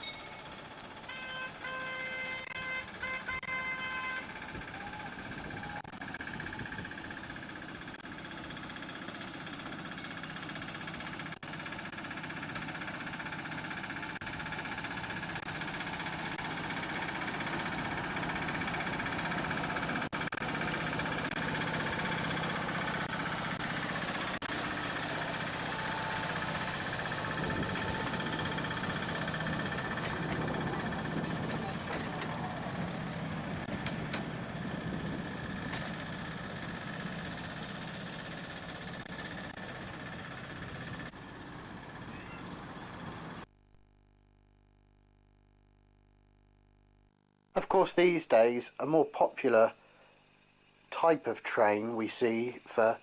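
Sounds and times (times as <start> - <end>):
small vehicle engine running: 0.0 - 43.5.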